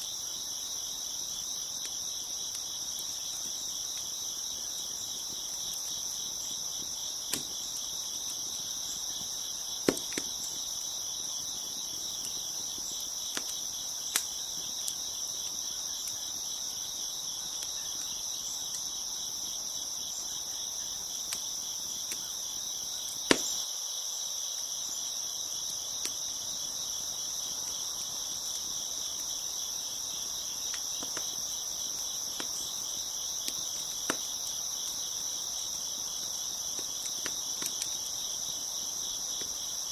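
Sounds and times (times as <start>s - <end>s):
crickets chirping: 0.0s - 39.9s
wood fire popping and crackling: 0.7s - 23.6s, 25.5s - 39.8s.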